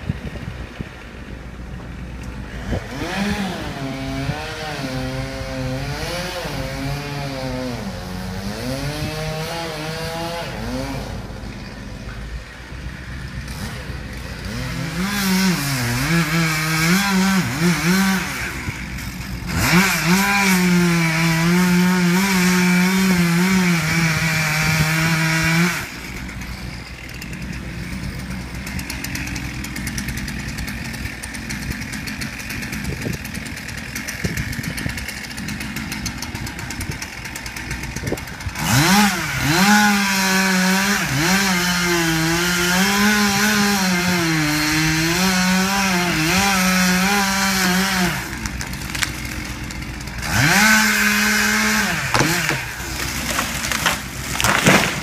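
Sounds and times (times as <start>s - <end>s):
chainsaw revving and idling: 0.0s - 55.0s.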